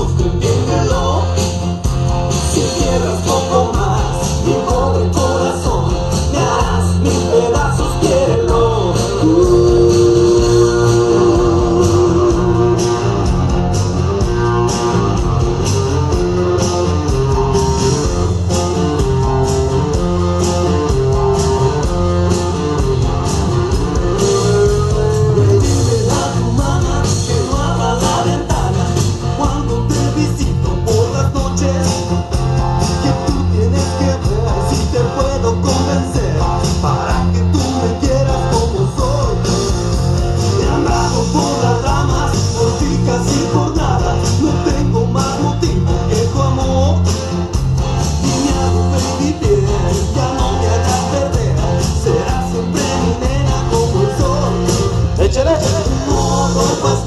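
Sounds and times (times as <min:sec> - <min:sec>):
song with heavy bass beat: 0:00.0 - 0:57.0.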